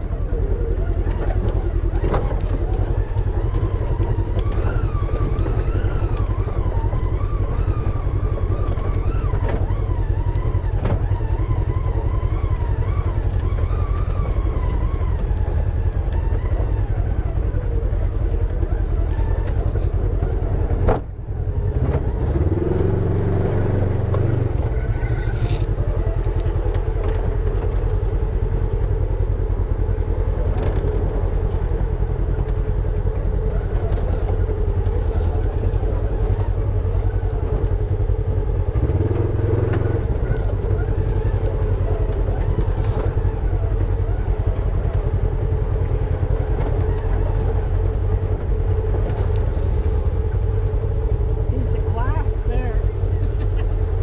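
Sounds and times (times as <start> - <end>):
utility vehicle engine rumbling: 0.0 - 54.0.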